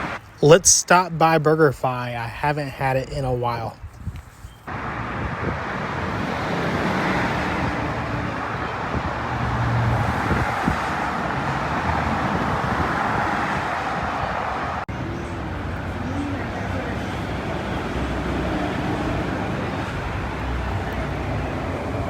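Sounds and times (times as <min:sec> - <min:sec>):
car driving road noise: 0:00.0 - 0:22.0.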